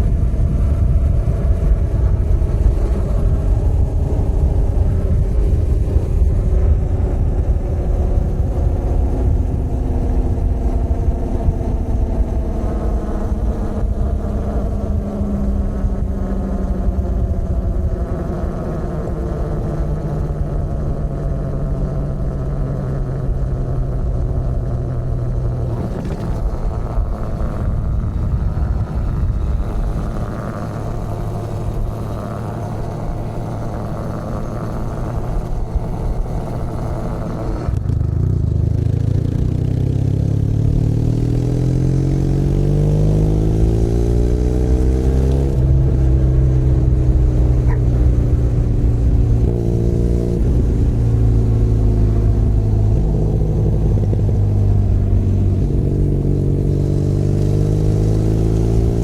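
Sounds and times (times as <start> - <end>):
motorcycle engine revving and shifting: 0.0 - 59.0.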